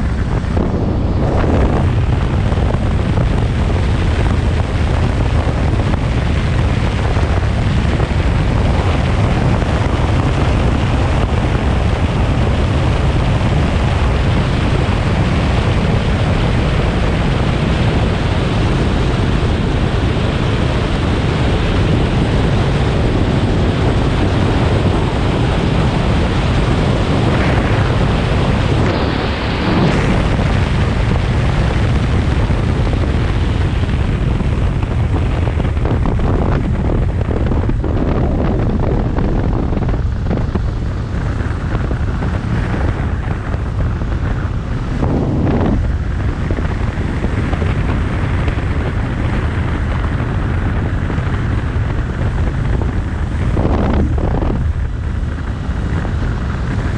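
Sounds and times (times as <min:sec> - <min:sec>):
wind rush on microphone: 0:00.0 - 0:56.9.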